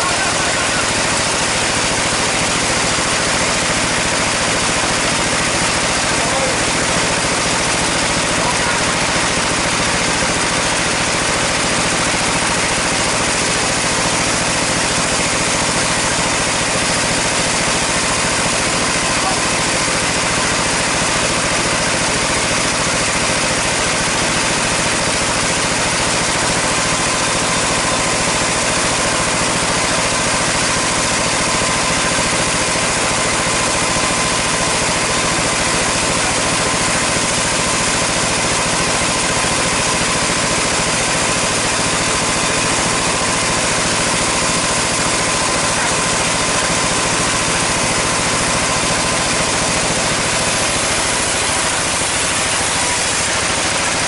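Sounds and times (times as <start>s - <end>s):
sawmill machinery drone: 0.0s - 54.0s.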